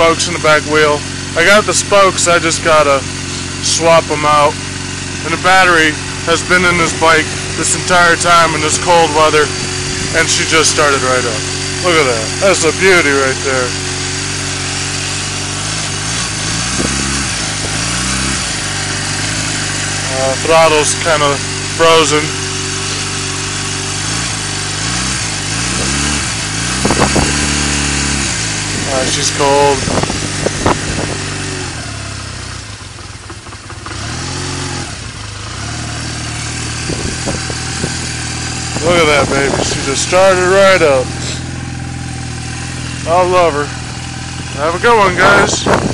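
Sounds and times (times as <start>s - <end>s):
motorcycle engine revving and idling: 0.0s - 45.9s.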